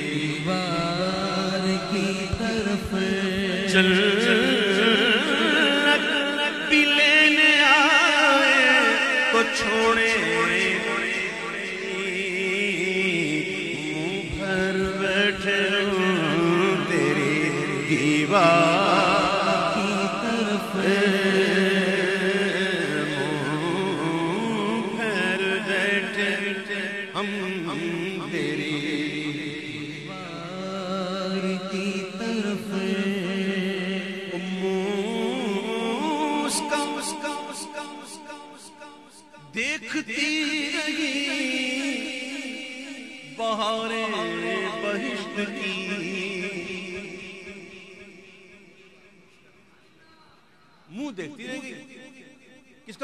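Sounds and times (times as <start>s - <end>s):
man singing melismatic notes: 0.0s - 52.0s.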